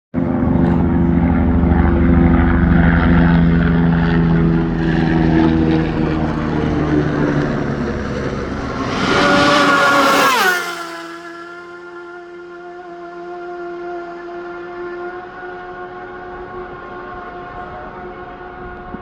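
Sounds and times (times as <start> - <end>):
steady engine drone: 0.1 - 19.0.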